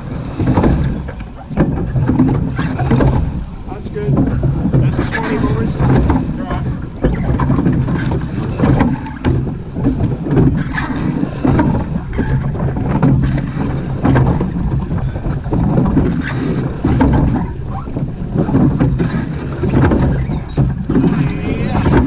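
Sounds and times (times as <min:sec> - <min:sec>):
oars rowing: 0:00.0 - 0:22.0
water rushing past hull: 0:00.0 - 0:22.0
wind buffeting microphone: 0:00.0 - 0:22.0.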